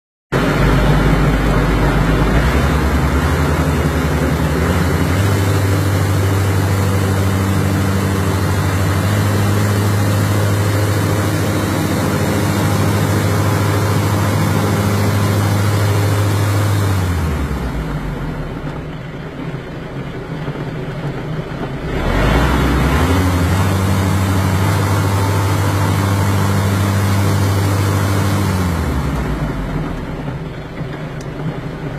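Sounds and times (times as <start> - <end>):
tractor engine revving and idling: 0.3 - 31.9.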